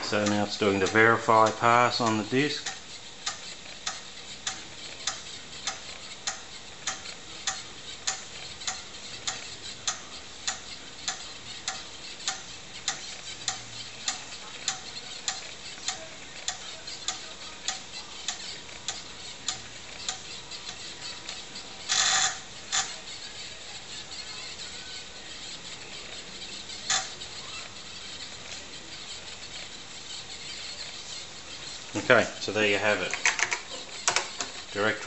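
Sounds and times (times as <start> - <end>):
floppy disk drive ticking: 0.0 - 35.0.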